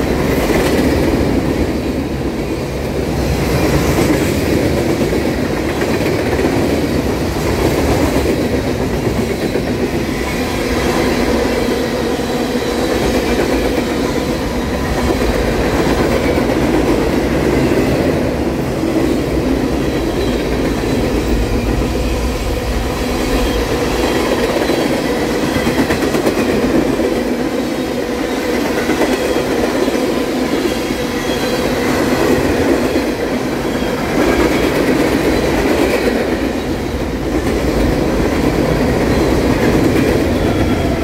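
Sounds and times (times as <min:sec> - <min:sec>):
freight train cars rolling past: 0:00.0 - 0:41.0.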